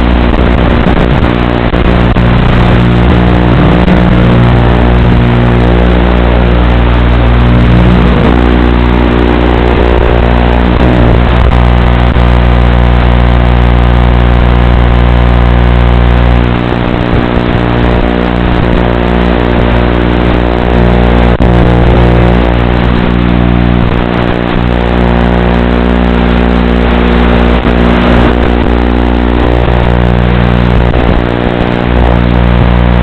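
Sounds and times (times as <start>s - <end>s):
loud electrical buzz: 0.0s - 33.0s.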